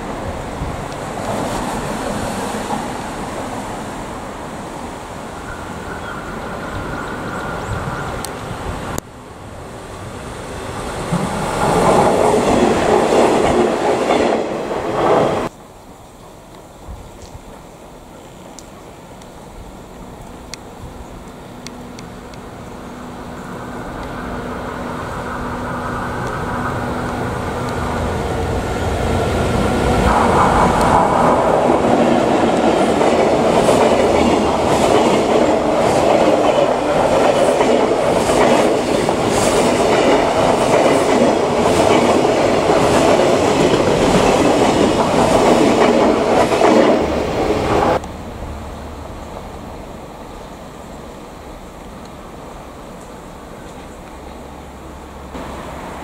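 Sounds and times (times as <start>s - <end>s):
electric locomotive passing: 0.0s - 16.8s, 17.6s - 56.0s.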